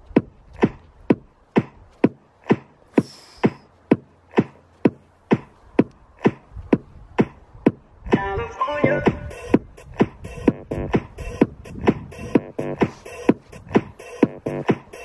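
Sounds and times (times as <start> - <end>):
drum machine beat: 0.0 - 15.0.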